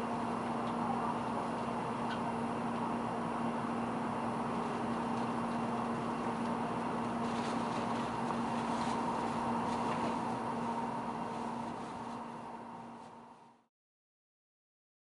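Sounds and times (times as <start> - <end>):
train hum and drone: 0.0 - 13.7.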